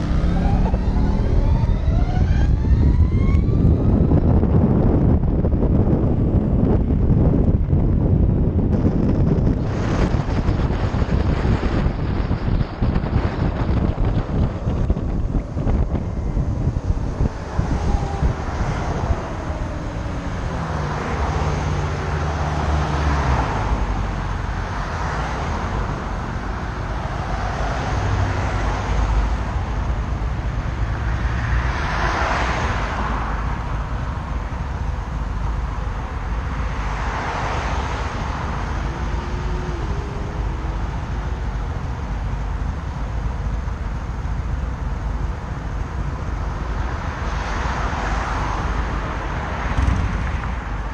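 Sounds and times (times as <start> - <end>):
cars passing: 0.0 - 50.9
wind and road noise: 0.0 - 50.9.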